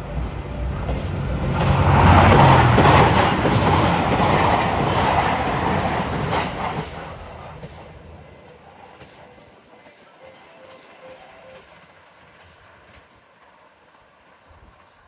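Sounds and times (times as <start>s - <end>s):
train passing at speed: 0.0s - 14.5s
wheels clicking over rail joints: 0.6s - 13.1s.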